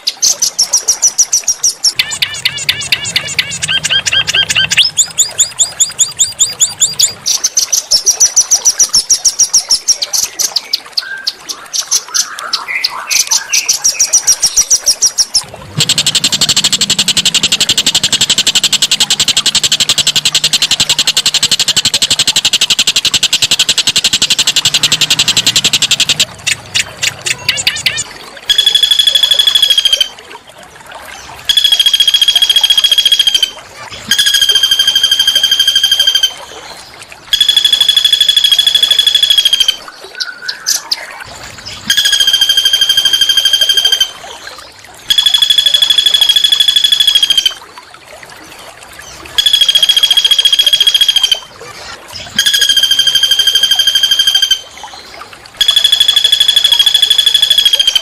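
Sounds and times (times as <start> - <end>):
songbird buzzy rattling call: 0.2 - 8.2, 12.2 - 30.1, 31.2 - 36.5, 37.3 - 41.0, 41.6 - 44.2, 45.0 - 47.6, 49.0 - 51.5, 52.1 - 58.0.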